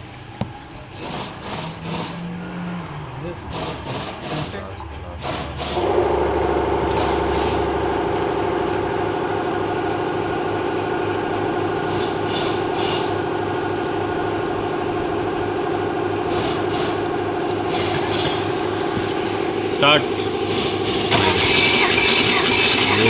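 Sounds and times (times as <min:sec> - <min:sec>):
engine cranking without starting: 0:03.4 - 0:23.0.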